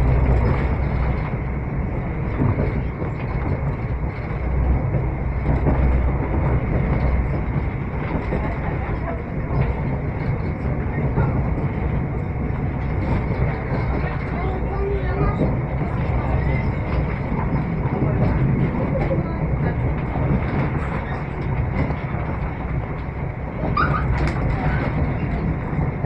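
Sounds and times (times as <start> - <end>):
train rumbling on track: 0.0 - 26.0.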